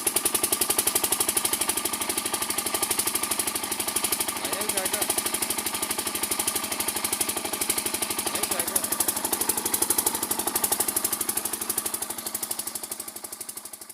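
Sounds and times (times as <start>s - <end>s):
diesel engine knocking steadily: 0.0s - 13.9s.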